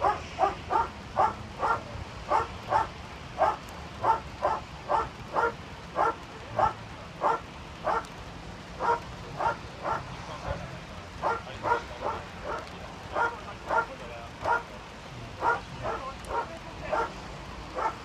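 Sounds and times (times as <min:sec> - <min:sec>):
dog barking: 0:00.0 - 0:08.1, 0:08.8 - 0:10.1, 0:11.2 - 0:14.7, 0:15.4 - 0:18.0.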